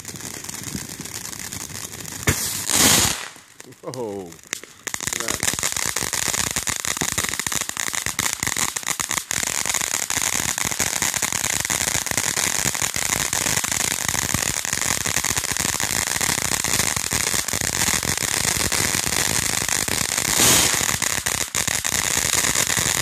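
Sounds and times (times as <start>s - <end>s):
fireworks fountain hissing and crackling: 0.0s - 23.0s.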